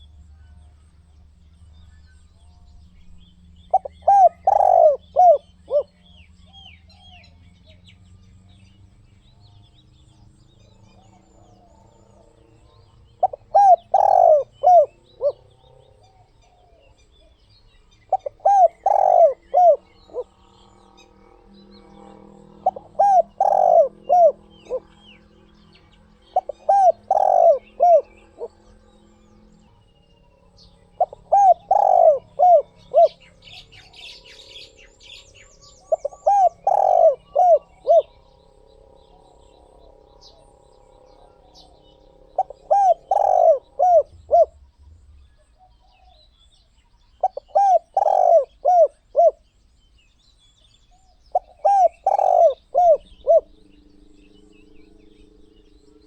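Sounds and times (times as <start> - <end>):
faint high bird chirps: 0.0 - 56.0
dove cooing: 3.0 - 7.3, 9.4 - 46.3, 47.0 - 49.6, 50.9 - 56.0.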